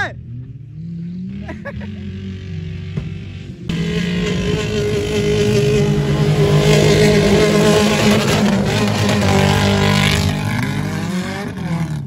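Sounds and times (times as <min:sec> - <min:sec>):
stock car engines running hard: 0:00.0 - 0:12.0
car passing at high revs: 0:00.3 - 0:12.0.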